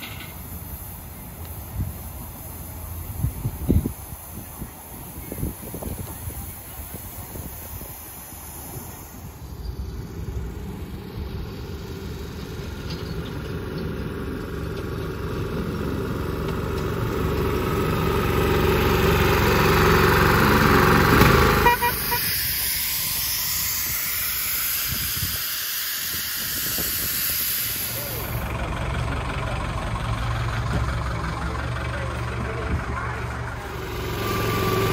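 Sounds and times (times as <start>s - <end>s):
steam locomotive hissing: 0.0s - 13.4s, 16.9s - 34.9s
miniature locomotive running: 0.0s - 34.9s.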